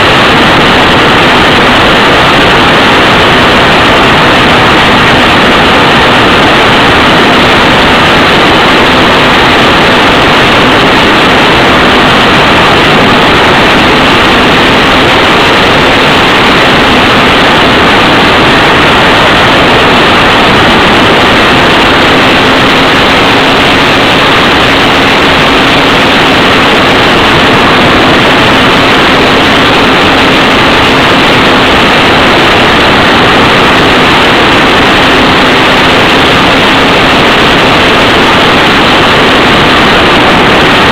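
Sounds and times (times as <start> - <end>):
faint steady hum: 0.0 - 40.9
model plane motor and propeller: 0.0 - 40.9.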